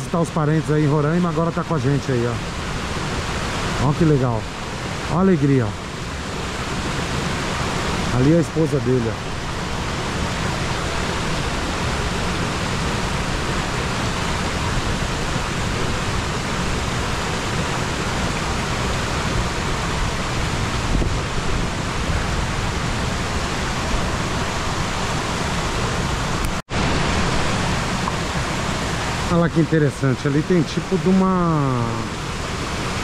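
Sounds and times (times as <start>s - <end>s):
waterfall roaring over rocks: 0.0s - 33.0s.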